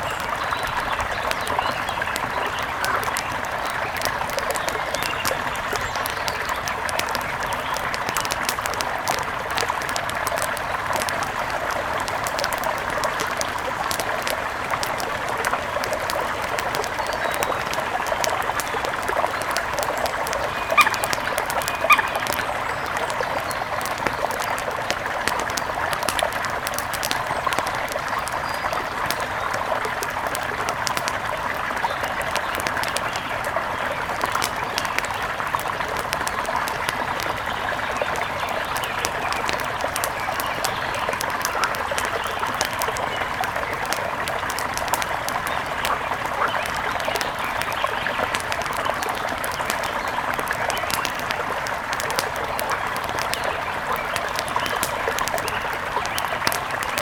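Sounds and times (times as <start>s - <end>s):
small sharp ticks: 0.0s - 57.0s.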